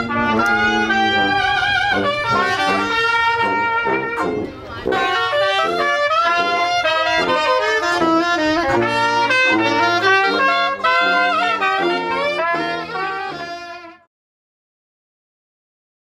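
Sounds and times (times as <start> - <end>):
jazz band playing: 0.0 - 14.1.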